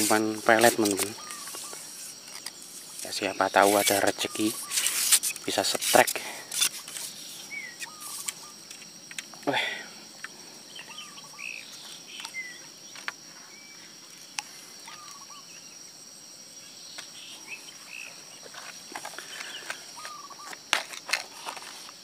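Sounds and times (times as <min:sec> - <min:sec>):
crickets trilling: 0:00.0 - 0:22.0
short insect chirps: 0:00.0 - 0:22.0.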